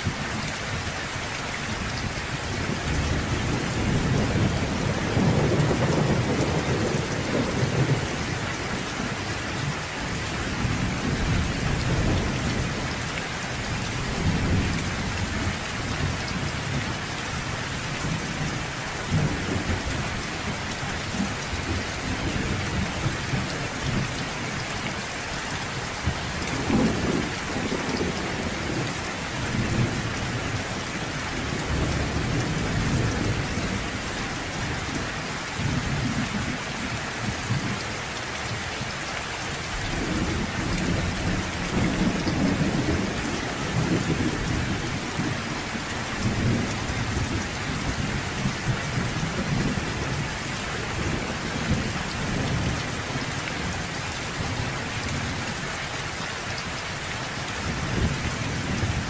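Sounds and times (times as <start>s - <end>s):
steady rain falling: 0.0s - 59.0s
low thunder rumbling: 1.7s - 17.0s, 17.7s - 25.0s, 25.6s - 35.0s, 39.8s - 55.6s.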